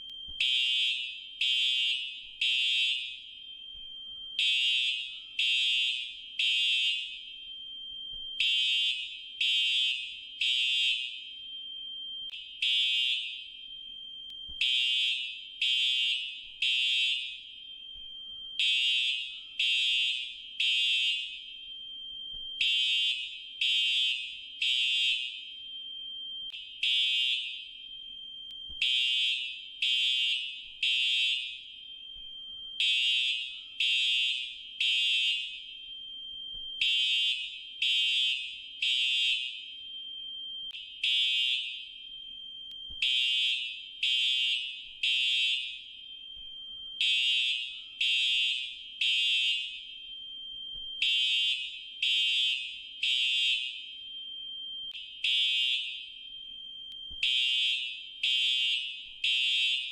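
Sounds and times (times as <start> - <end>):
fire alarm beeping: 0.0 - 59.9.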